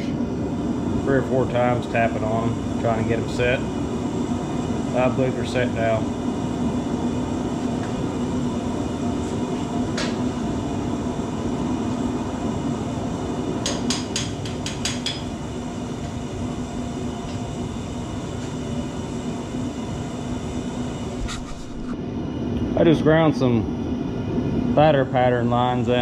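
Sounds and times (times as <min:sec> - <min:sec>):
propane forge burner running: 0:00.0 - 0:26.0.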